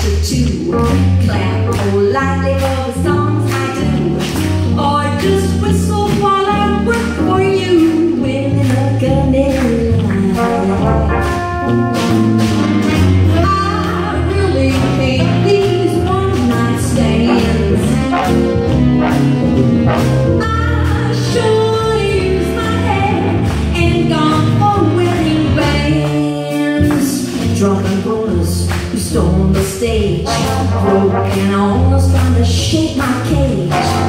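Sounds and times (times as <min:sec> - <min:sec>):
woman singing: 0:00.0 - 0:11.4, 0:13.2 - 0:18.2, 0:20.4 - 0:34.0
big band jazz: 0:00.0 - 0:34.0.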